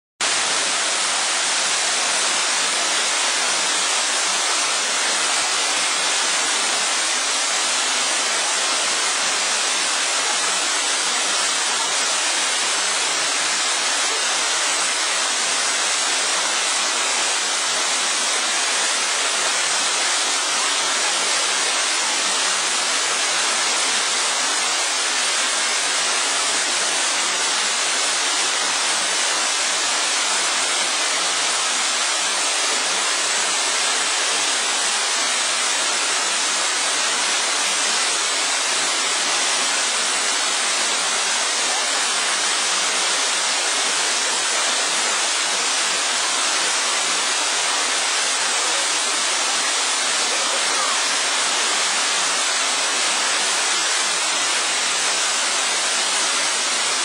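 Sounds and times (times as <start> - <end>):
waterfall rushing: 0.2 - 57.0.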